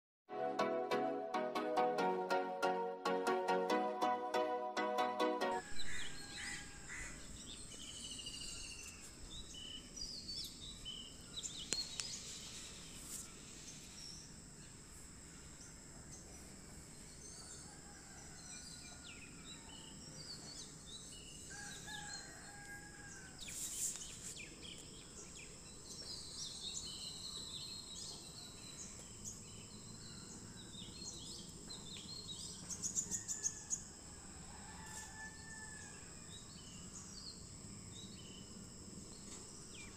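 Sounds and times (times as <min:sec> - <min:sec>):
steady high-pitched whine: 0:02.0 - 0:39.9.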